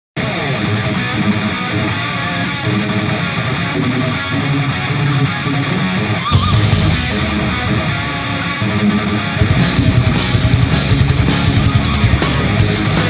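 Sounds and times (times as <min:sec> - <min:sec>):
rock music with guitar: 0:00.2 - 0:13.0.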